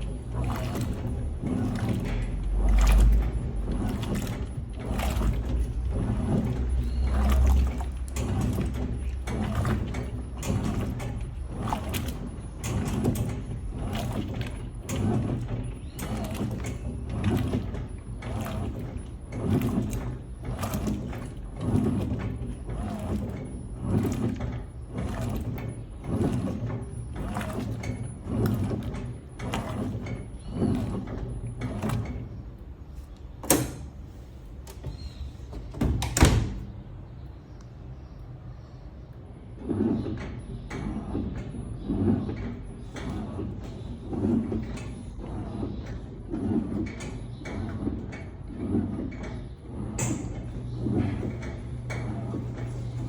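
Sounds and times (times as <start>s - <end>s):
washing machine agitator swishing water: 0.0s - 53.0s
washing machine motor hum: 0.0s - 53.0s.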